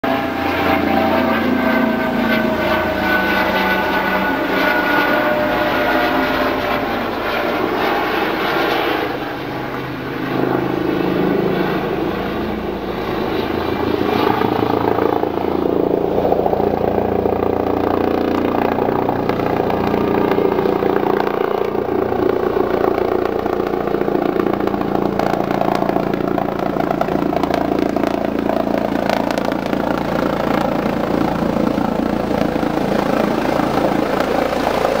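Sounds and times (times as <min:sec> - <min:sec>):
helicopter flying overhead: 0:00.0 - 0:35.0.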